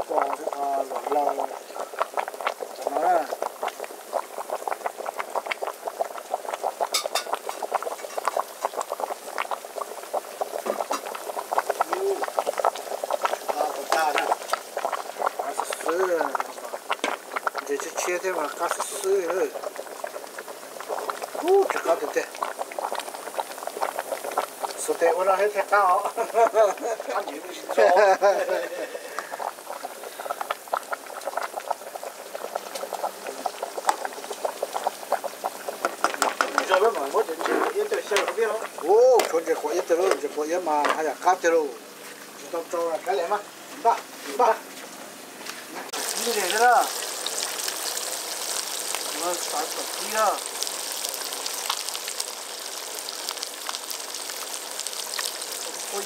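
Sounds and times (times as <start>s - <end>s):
soup boiling and bubbling: 0.0s - 56.0s.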